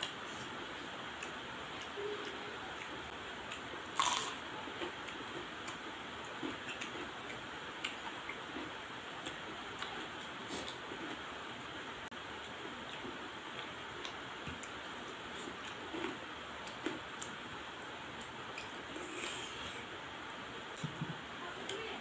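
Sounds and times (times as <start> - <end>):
person chewing: 0.0 - 11.2, 12.4 - 17.4, 18.2 - 19.9.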